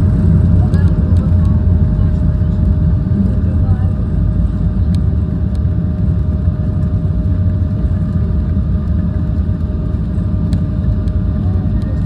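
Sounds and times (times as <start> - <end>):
airliner engines and rushing air: 0.0 - 12.0.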